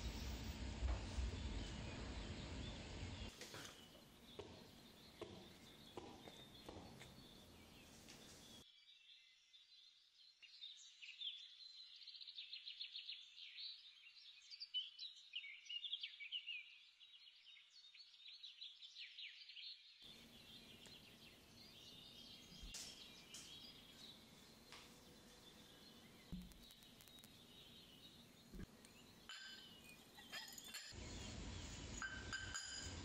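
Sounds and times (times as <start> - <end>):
songbird chirps and trills: 0.9 - 17.6, 18.4 - 33.0.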